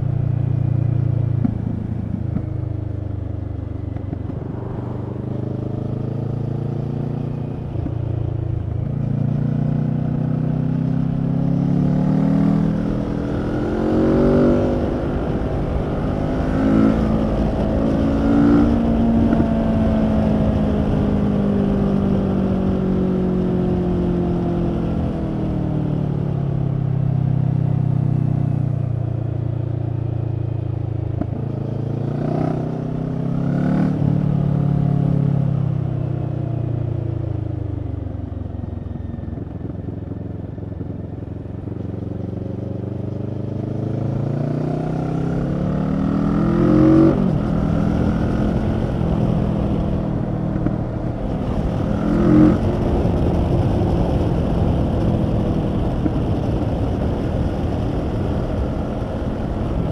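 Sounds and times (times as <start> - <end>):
motorcycle engine revving: 0.8 - 23.1, 31.1 - 36.9, 38.3 - 59.9.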